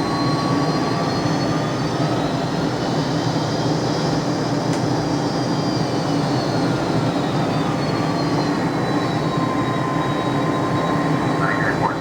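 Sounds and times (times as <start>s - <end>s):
jet engines at high power: 0.0s - 12.0s.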